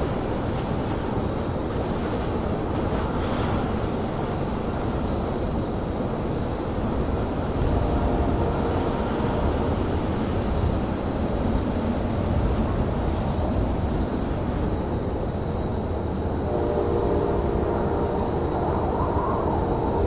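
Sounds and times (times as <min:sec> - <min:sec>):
trains and machinery rumbling: 0:00.0 - 0:20.0.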